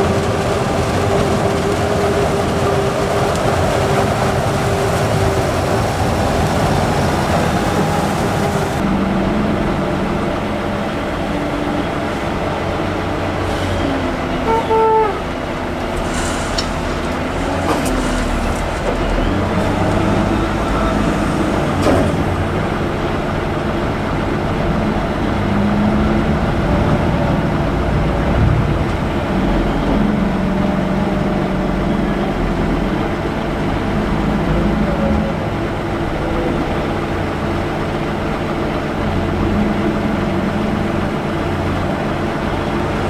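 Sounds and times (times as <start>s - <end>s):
wheel loader diesel engine revving: 0.0s - 43.0s.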